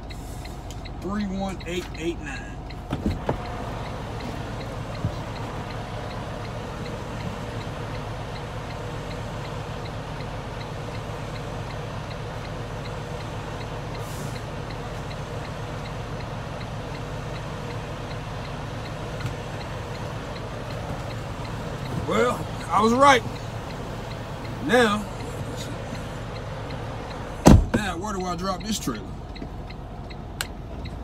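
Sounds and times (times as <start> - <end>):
diesel engine idling: 0.0 - 31.0
light regular ticking: 0.0 - 31.0.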